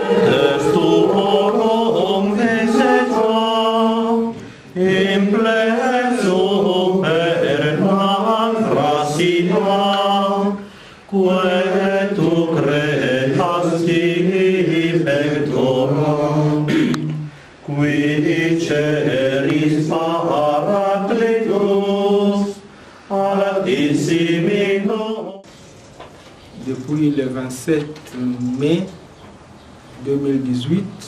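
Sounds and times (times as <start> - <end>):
group singing a hymn: 0.0 - 25.5.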